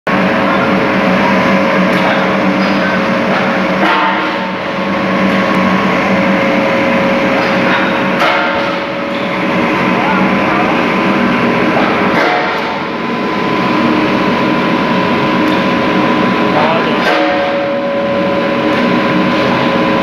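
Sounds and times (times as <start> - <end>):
industrial machinery din: 0.1 - 20.0.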